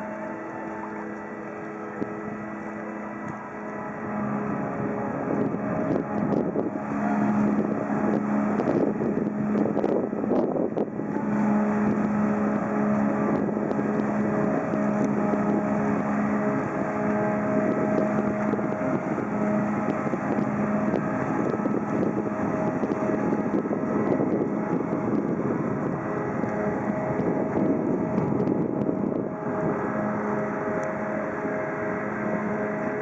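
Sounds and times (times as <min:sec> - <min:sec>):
ship engine low hum: 0:00.0 - 0:33.0.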